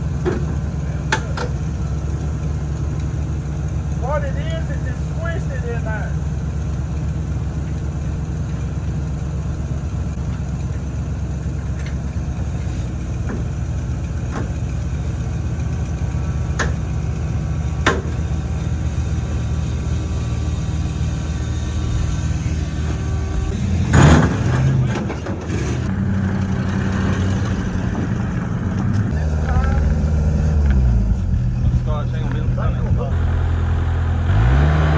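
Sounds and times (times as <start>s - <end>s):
work vehicle engine idling: 0.0s - 34.4s.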